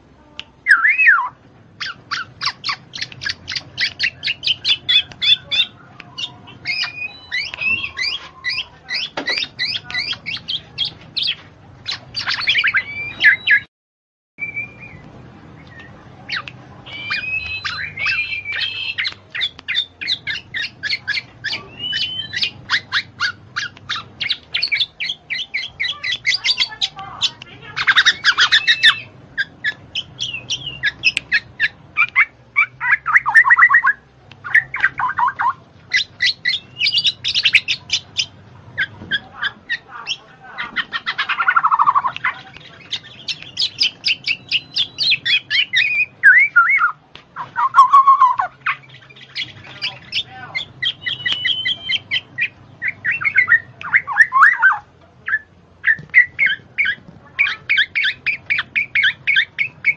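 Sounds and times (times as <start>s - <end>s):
harsh squawking calls: 0.7s - 13.7s, 15.6s - 59.9s.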